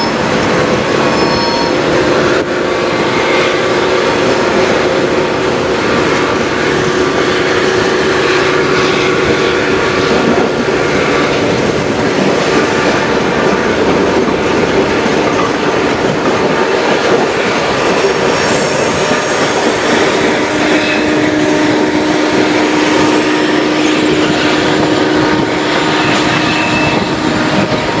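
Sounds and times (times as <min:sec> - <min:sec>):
steady whine: 0:00.0 - 0:28.0
train wheels rumbling on track: 0:00.0 - 0:28.0.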